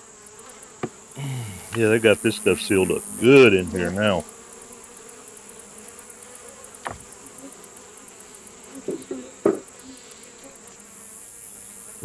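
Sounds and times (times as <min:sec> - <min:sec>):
honeybees buzzing: 0:00.0 - 0:12.0
bee passing close: 0:00.1 - 0:11.9.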